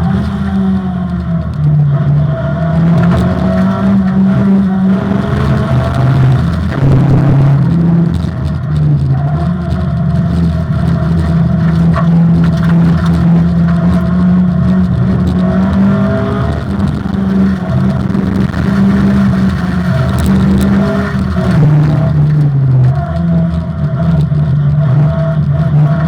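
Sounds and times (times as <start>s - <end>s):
rally car engine running hard: 0.0s - 26.0s.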